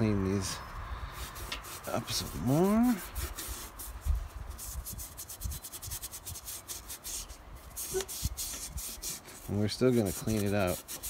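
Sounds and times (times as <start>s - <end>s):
scrubbing metal parts: 1.2s - 11.0s.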